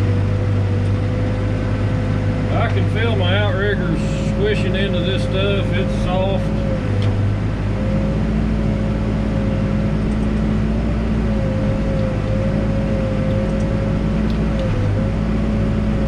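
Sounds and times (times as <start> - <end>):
diesel engine running: 0.0 - 16.0
steady whining tone: 0.0 - 16.0.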